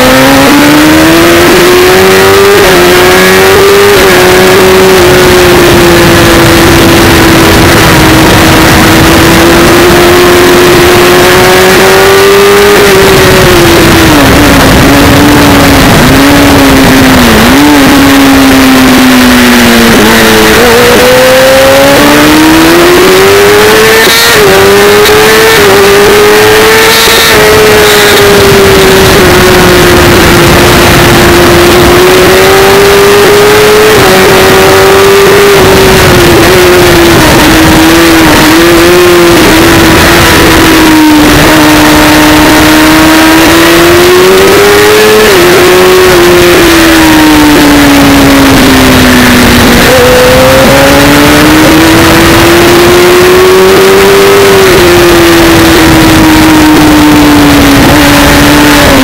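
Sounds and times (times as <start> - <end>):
heavy wind rush: 0.0 - 59.0
motorcycle engine revving: 0.0 - 59.0.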